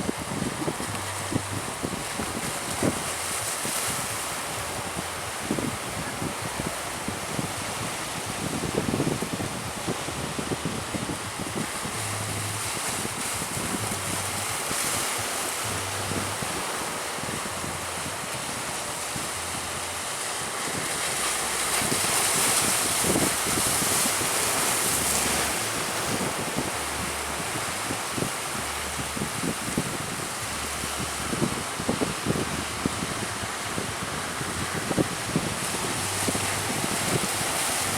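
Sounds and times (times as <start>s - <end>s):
sea waves rushing: 0.0s - 37.9s
wind buffeting microphone: 0.0s - 37.9s.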